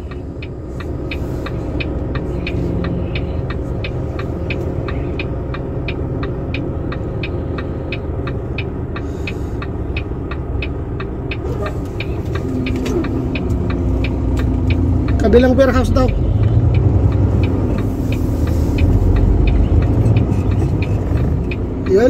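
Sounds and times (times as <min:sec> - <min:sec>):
diesel engine idling: 0:00.0 - 0:22.0
even ticking clicks: 0:00.0 - 0:22.0.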